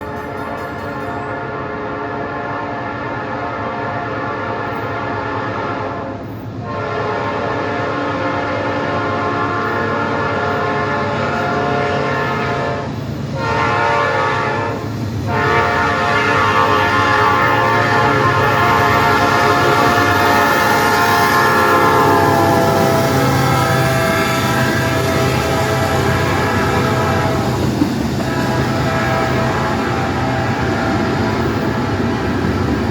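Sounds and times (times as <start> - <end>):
low rumble of moving train: 0.0 - 32.9
locomotive air horn blasts: 1.3 - 32.5.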